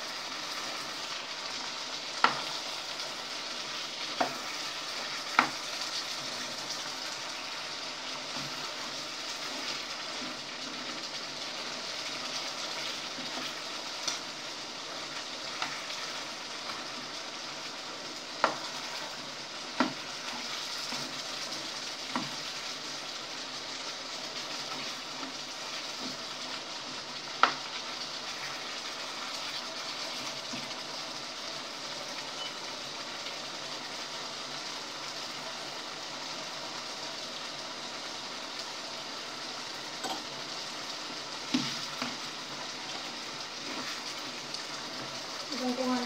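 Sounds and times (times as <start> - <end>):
chicken frying in a pan: 0.0 - 46.0.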